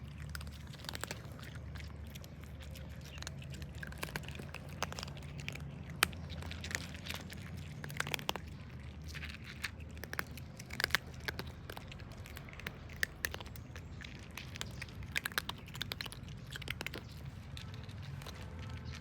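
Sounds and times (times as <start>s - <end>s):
cats crunching dry food: 0.0s - 19.0s
low steady hum: 0.0s - 19.0s.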